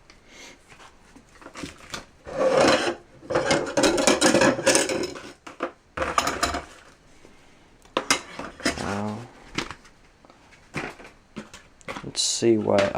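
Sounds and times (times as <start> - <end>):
packaging rustling and scraping: 0.6 - 7.0, 8.0 - 12.9.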